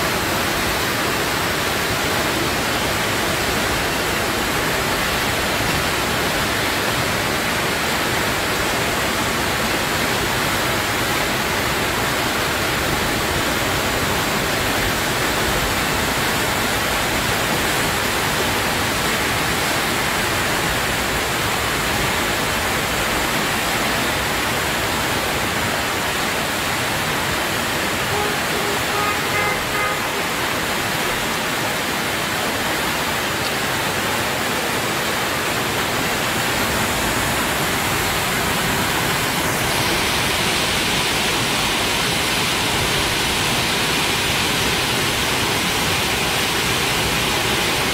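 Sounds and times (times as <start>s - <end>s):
muddy water rushing: 0.0s - 47.9s.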